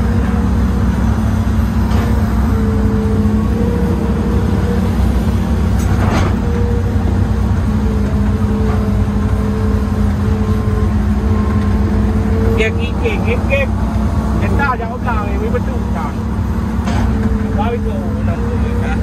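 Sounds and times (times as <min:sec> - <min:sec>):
excavator engine and hydraulics: 0:00.0 - 0:19.0.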